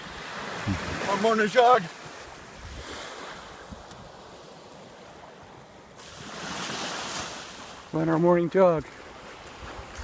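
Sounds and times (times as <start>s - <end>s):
surf washing on shore: 0.0s - 10.0s.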